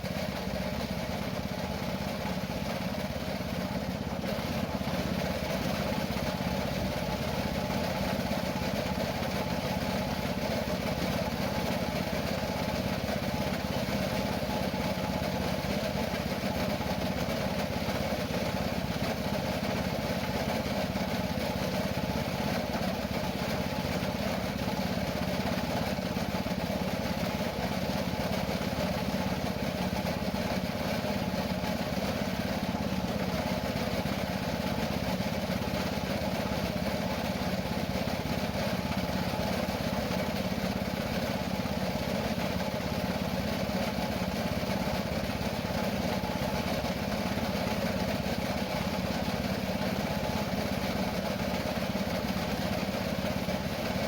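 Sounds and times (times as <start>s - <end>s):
small engine running steadily: 0.0s - 54.0s.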